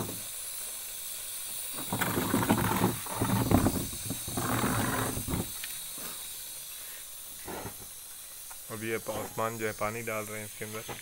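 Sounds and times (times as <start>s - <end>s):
food sizzling in a metal pot: 0.0s - 11.0s.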